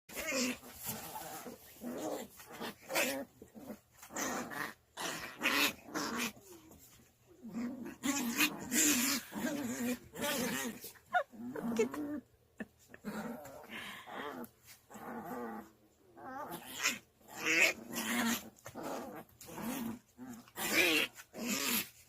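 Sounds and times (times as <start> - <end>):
puppies growling: 0.1 - 22.0.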